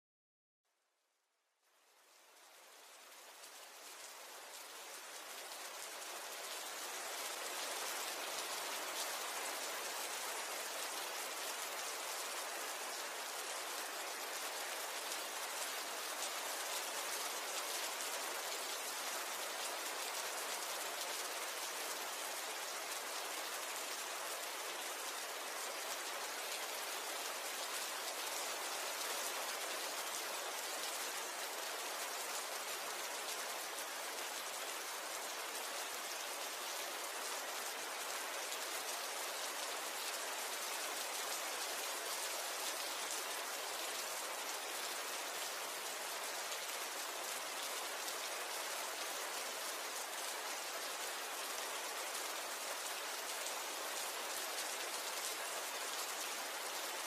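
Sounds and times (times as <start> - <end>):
steady rain falling: 0.8 - 57.0.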